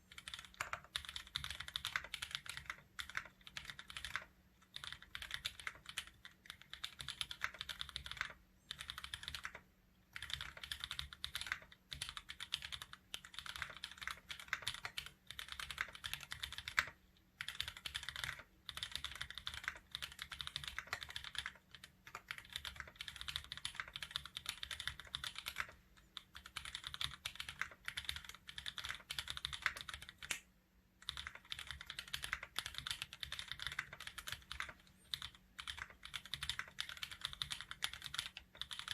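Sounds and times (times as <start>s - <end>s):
mechanical keyboard typing: 0.1s - 30.4s, 31.0s - 38.9s.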